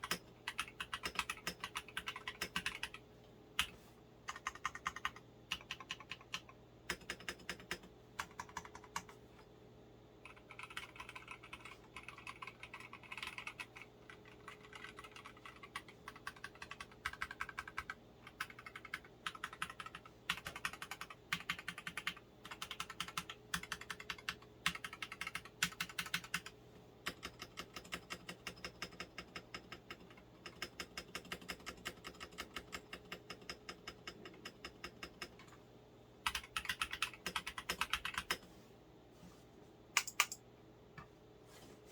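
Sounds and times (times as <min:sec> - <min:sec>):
mechanical keyboard typing: 0:00.0 - 0:03.0, 0:04.3 - 0:09.2, 0:10.3 - 0:35.5, 0:36.2 - 0:38.5, 0:40.0 - 0:40.4.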